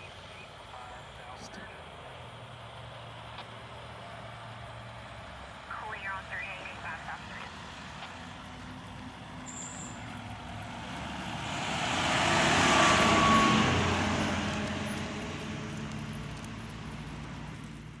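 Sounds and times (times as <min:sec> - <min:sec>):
fire engine driving past: 0:00.0 - 0:18.0.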